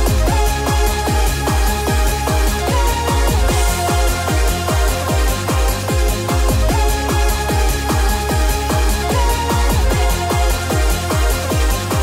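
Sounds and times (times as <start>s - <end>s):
techno kick drum beat: 0.0s - 12.0s.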